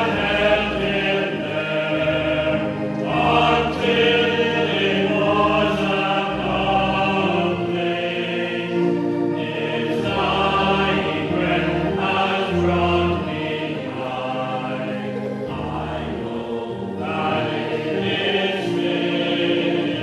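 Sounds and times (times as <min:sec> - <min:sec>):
congregation singing a hymn: 0:00.0 - 0:20.0
organ chords: 0:00.0 - 0:20.0.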